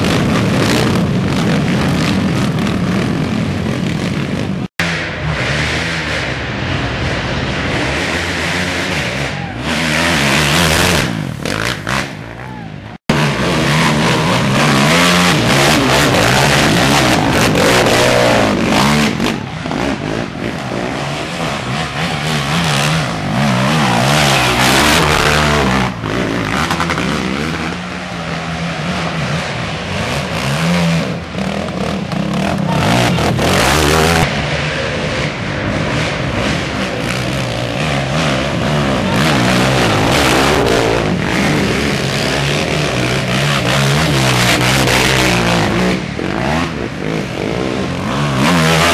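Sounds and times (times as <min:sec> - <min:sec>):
quad engines revving hard: 0:00.0 - 0:48.9.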